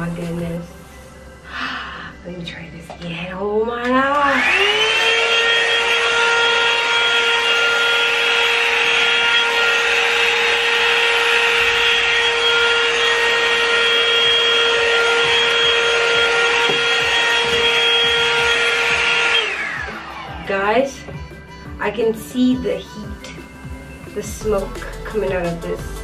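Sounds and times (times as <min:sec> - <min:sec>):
hair dryer running: 0:03.0 - 0:25.9.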